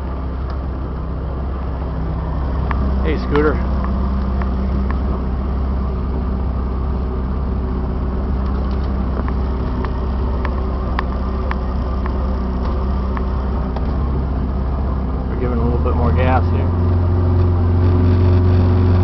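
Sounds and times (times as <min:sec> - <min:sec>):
outboard motor droning: 0:00.0 - 0:19.0.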